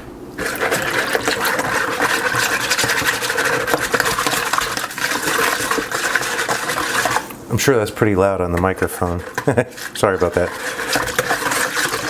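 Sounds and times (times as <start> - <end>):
whisk clattering against bowl: 0.4 - 7.3, 8.4 - 12.0.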